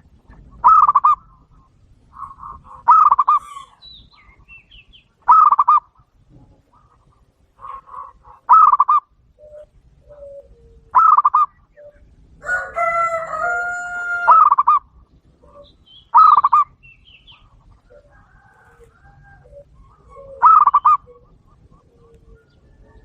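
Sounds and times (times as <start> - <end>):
long drawn-out dove call: 0.0 - 6.0, 6.6 - 23.0
doves cooing: 0.0 - 23.0.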